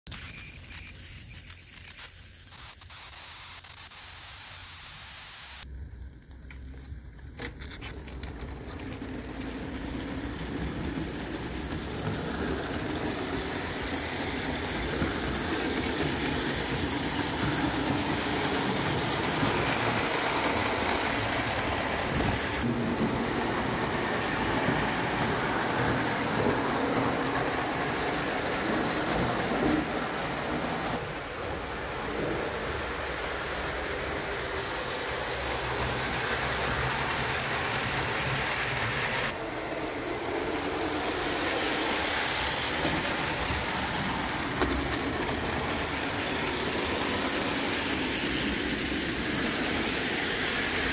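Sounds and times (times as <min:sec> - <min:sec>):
steam hissing with whistle tone: 0:00.1 - 0:05.8, 0:09.6 - 0:50.9
toy locomotive running on track: 0:00.1 - 0:50.9.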